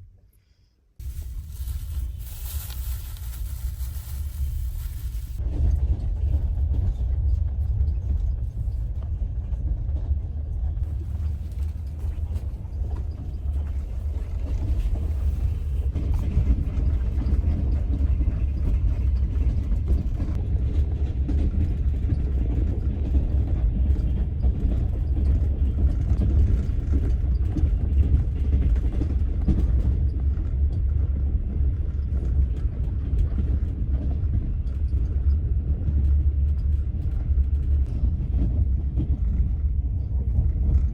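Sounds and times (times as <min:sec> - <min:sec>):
train rumbling: 0:01.0 - 0:40.9.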